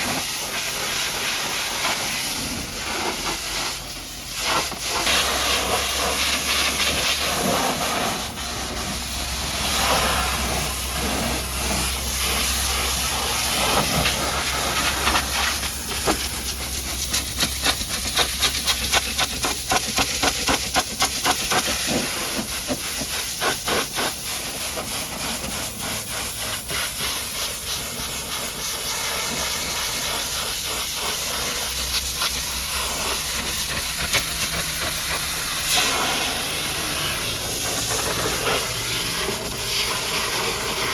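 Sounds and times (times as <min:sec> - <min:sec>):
high-pressure water jet hissing: 0:00.0 - 0:40.9.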